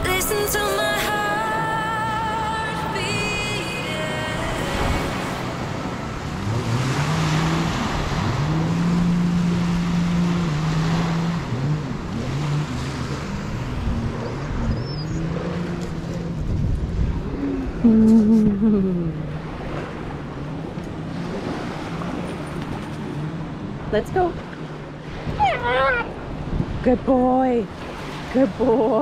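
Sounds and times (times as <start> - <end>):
surf: 0.0 - 29.0
wind: 0.0 - 29.0
jet ski engine revving: 1.2 - 26.8.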